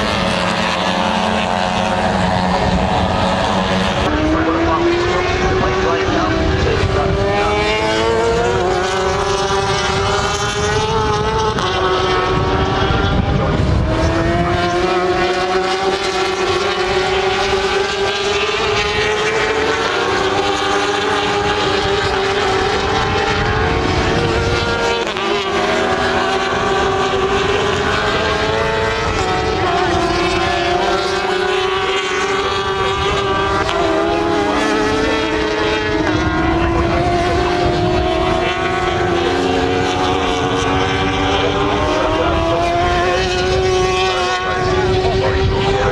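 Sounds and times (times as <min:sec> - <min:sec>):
racing motorcycle engines revving: 0:00.0 - 0:45.9.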